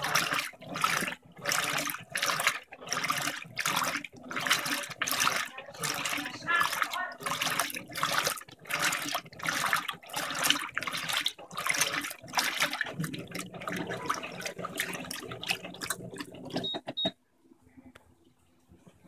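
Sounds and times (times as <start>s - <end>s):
washing machine sloshing water: 0.0s - 17.1s.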